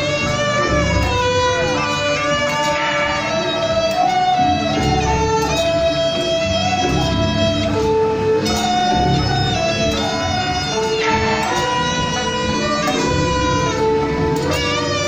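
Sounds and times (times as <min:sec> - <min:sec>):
procession music: 0:00.0 - 0:15.0.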